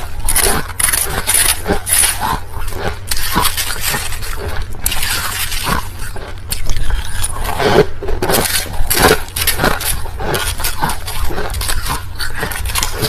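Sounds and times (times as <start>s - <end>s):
crushed ice being chewed: 0.0s - 13.0s.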